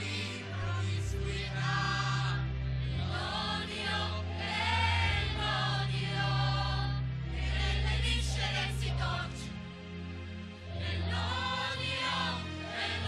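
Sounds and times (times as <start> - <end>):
choir singing sacred music: 0.0 - 13.0.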